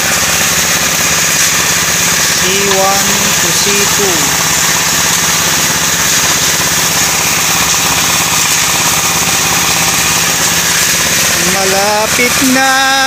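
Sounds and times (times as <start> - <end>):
concrete mixer engine chugging: 0.0 - 13.0.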